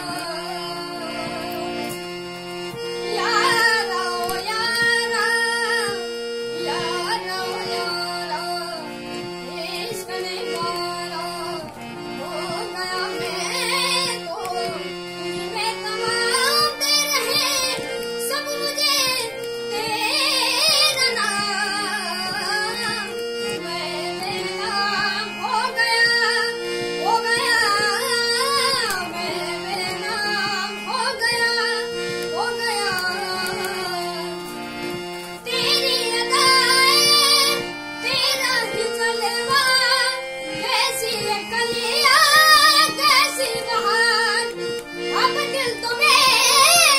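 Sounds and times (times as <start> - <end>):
child singing: 0.0 - 1.6, 3.1 - 8.9, 9.5 - 34.3, 35.4 - 44.6, 45.2 - 46.9
instrumental accompaniment: 0.0 - 46.9.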